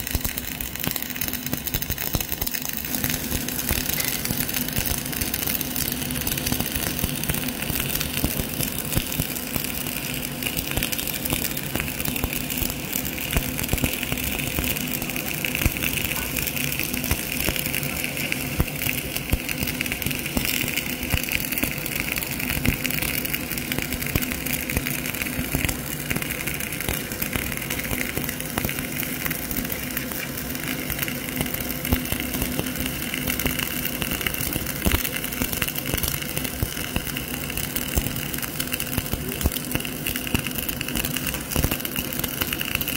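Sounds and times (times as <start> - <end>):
steady hum: 0.0 - 42.9
welding arc crackling and sizzling: 0.0 - 42.9.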